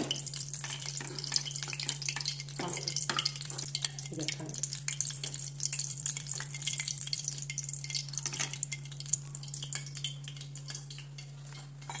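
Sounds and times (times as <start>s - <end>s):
pot simmering with popping bubbles: 0.0s - 12.0s.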